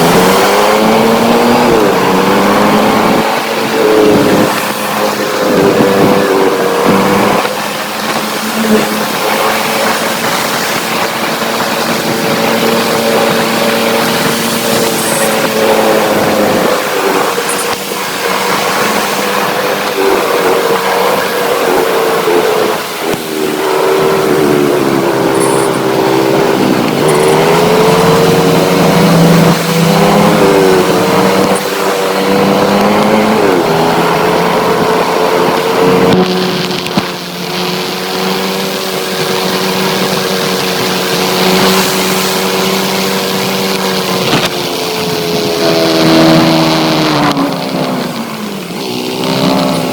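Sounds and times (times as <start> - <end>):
motorcycle engine running: 0.0 - 49.9
rushing noise: 0.0 - 49.9
wind noise: 0.0 - 49.9.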